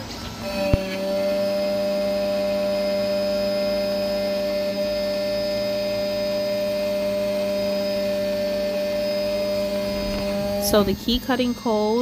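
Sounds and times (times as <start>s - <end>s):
key cutting machine motor whine: 0.0s - 12.0s.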